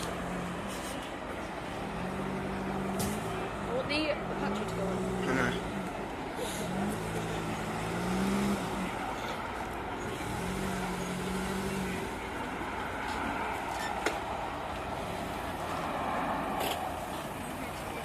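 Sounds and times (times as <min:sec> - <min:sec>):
low humming engine note: 0:00.0 - 0:18.0.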